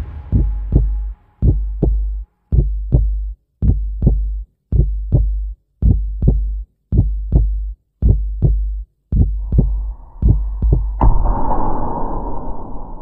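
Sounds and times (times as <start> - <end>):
heartbeat double thumps: 0.0 - 12.2.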